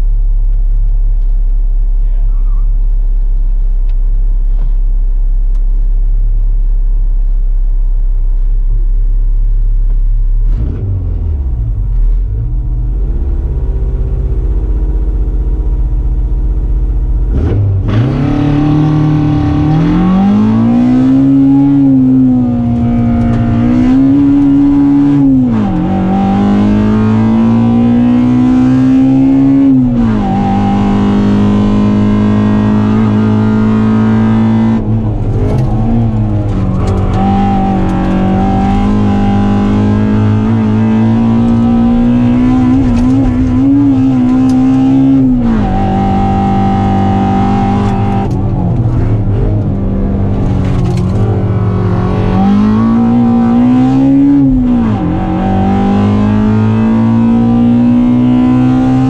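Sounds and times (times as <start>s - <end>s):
car engine revving and accelerating: 10.4s - 59.0s.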